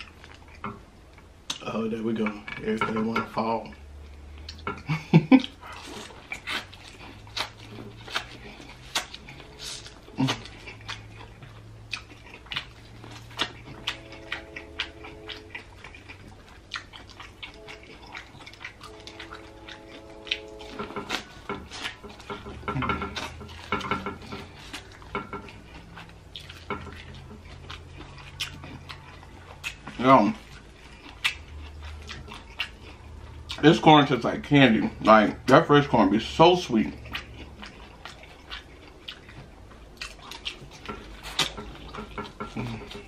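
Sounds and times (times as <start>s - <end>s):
biting and chewing corn: 0.0s - 43.0s.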